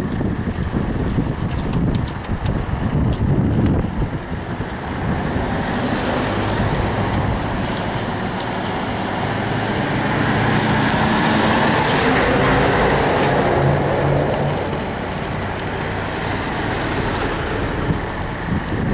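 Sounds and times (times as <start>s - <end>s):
vehicle engine running: 0.0s - 18.9s.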